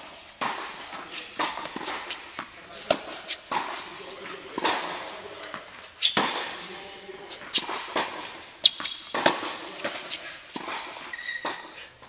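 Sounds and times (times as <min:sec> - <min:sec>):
tennis balls struck and bouncing: 0:00.0 - 0:12.0
players' voices: 0:00.4 - 0:12.0.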